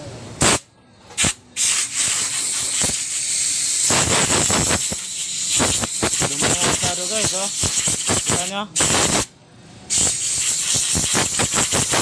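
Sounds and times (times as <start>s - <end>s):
compressed air blow gun hissing: 1.2s - 9.3s, 9.9s - 12.0s.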